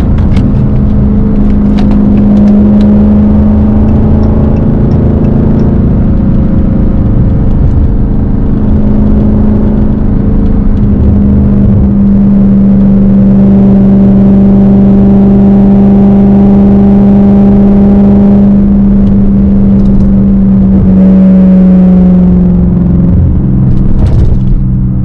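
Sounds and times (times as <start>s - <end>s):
loud car engine droning: 0.0s - 25.0s.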